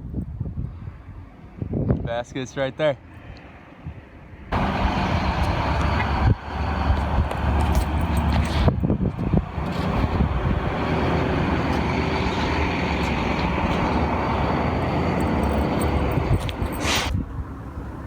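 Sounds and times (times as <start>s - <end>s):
wind buffeting microphone: 0.0s - 2.2s, 3.8s - 18.0s.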